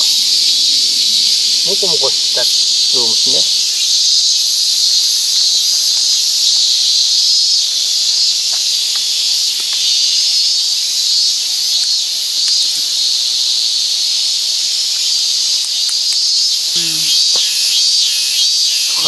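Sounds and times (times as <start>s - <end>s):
high insect trilling: 0.0s - 19.0s
insects buzzing drone: 0.0s - 19.0s.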